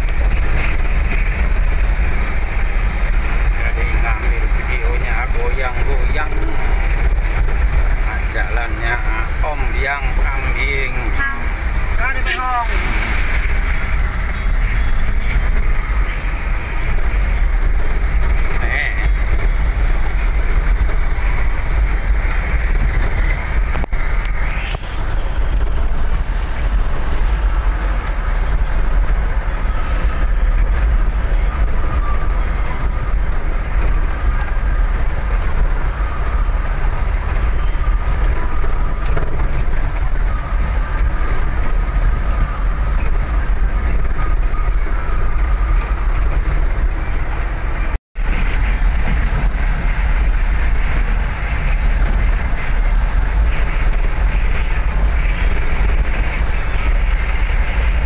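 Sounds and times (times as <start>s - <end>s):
diesel truck engine rumbling: 0.0s - 58.0s
road noise: 0.0s - 58.0s.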